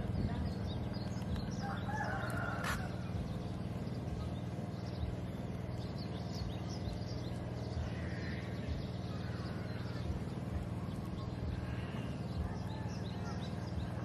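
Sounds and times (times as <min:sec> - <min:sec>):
motor pulsing hum: 0:00.0 - 0:14.0.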